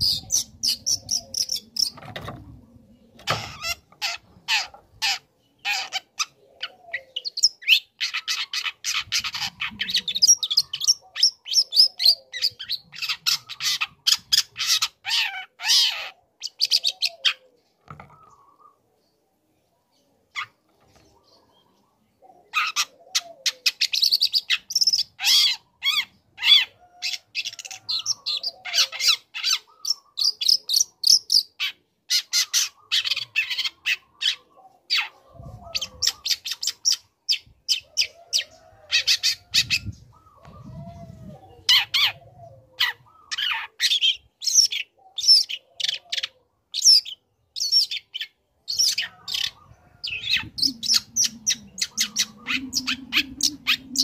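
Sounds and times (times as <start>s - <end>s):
bird chattering song: 0.0s - 19.2s, 20.0s - 54.0s.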